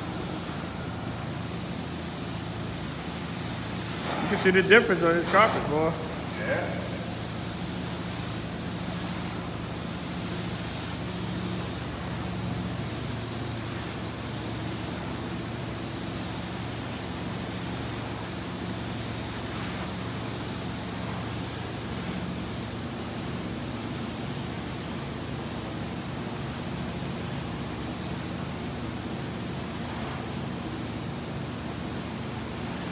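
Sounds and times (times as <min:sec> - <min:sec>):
hiss of suction and spray: 0:00.0 - 0:32.9.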